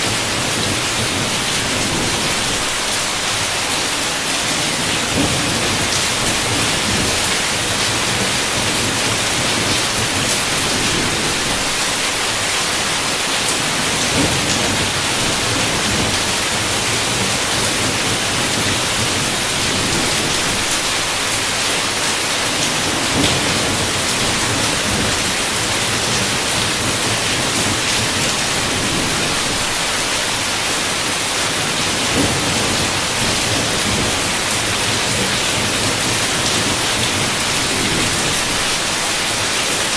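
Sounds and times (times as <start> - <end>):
heavy rain hissing: 0.0 - 39.9
raindrop impacts: 0.1 - 30.5, 31.5 - 39.5.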